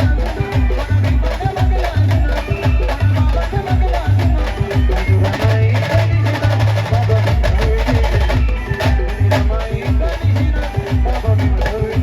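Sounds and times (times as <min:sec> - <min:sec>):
brisk drumming: 0:00.0 - 0:12.0.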